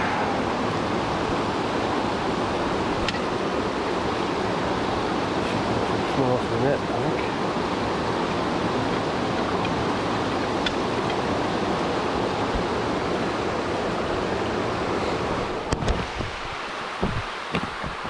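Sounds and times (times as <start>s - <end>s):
creek rushing over boulders: 0.0s - 18.0s.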